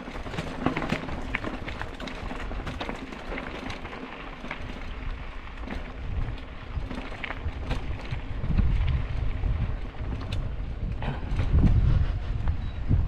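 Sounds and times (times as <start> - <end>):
bicycle tyres crunching gravel: 0.0 - 13.0
bike clicks and rattles: 0.0 - 13.0.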